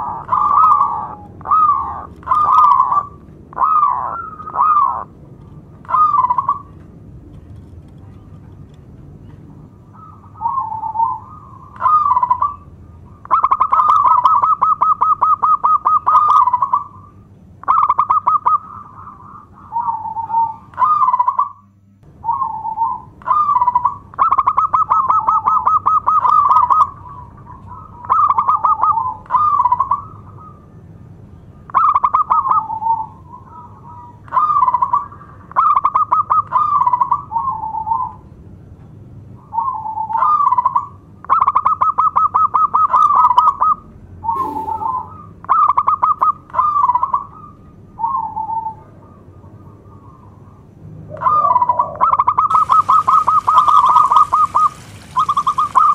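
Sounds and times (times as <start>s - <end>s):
dove cooing: 0.0s - 5.2s, 5.8s - 6.8s, 9.6s - 21.6s, 22.2s - 30.7s, 31.7s - 38.2s, 39.5s - 55.9s.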